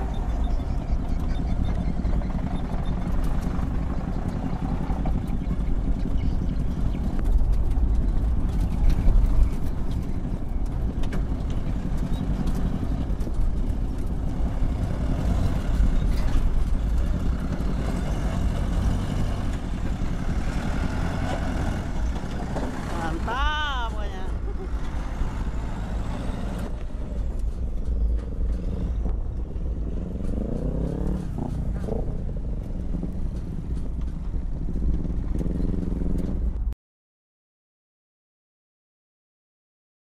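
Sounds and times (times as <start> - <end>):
diesel truck engine at low speed: 0.0 - 36.8.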